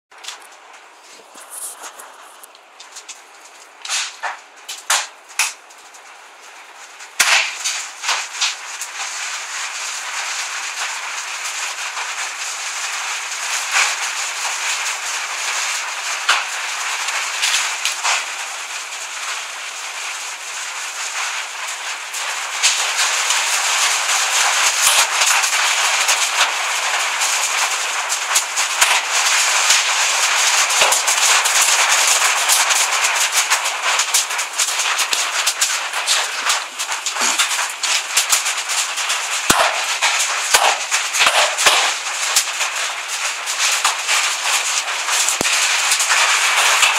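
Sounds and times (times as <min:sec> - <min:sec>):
hailstones hitting hard surfaces: 0:00.2 - 0:46.9.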